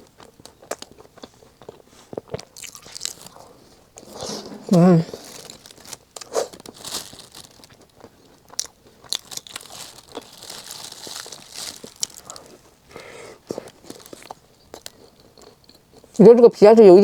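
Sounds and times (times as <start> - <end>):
pastry crunching: 0.0 - 16.2
person chewing: 0.0 - 16.2.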